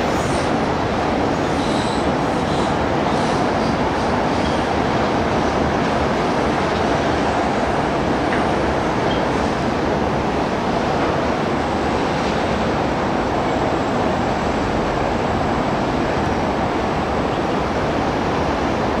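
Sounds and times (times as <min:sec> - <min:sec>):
road traffic noise: 0:00.0 - 0:19.0
train rumbling on elevated track: 0:00.0 - 0:19.0.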